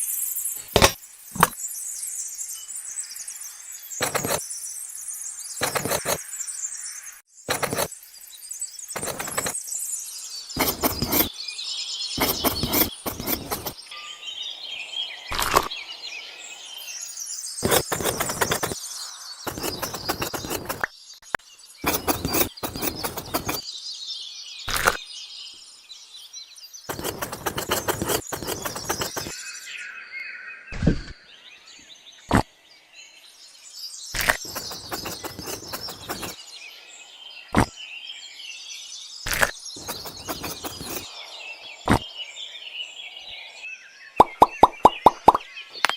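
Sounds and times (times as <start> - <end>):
birds chirping: 3.9 - 4.6, 5.5 - 6.6, 8.8 - 23.8, 24.6 - 45.9.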